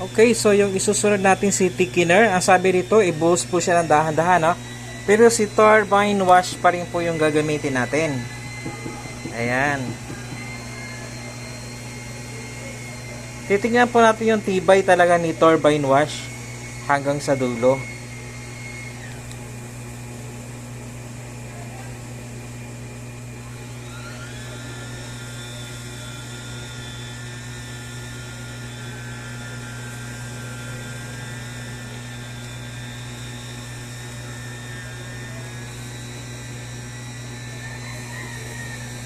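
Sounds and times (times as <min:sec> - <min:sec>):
small electric motor humming: 0:00.0 - 0:39.0.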